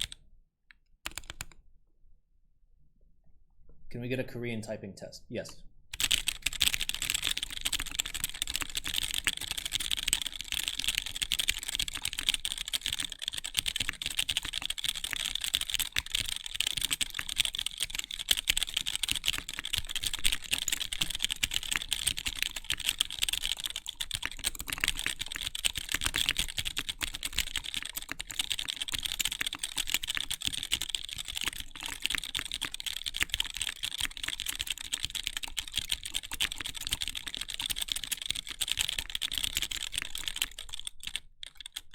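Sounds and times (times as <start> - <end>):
mechanical keyboard typing: 1.0 - 1.6, 6.0 - 41.9.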